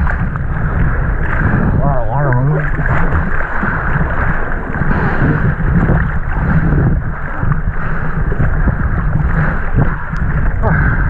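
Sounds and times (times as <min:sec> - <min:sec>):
water rushing and splashing: 0:00.0 - 0:11.0
wind buffeting microphone: 0:00.0 - 0:11.0.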